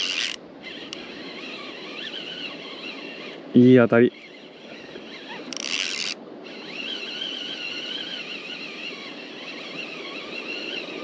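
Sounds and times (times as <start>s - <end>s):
fishing reel whining: 0.0s - 11.0s
wind and water hiss: 0.0s - 11.0s.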